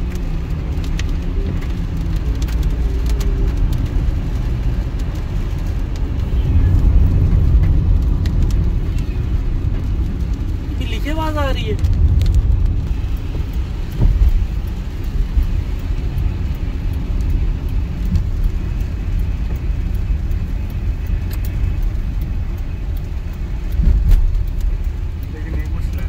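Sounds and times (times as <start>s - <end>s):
engine and tyres rumbling: 0.0s - 26.0s
raindrops ticking on glass: 0.0s - 26.0s.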